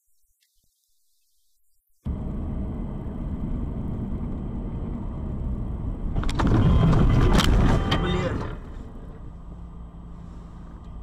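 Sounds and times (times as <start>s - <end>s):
car road and engine rumble: 2.0s - 11.0s.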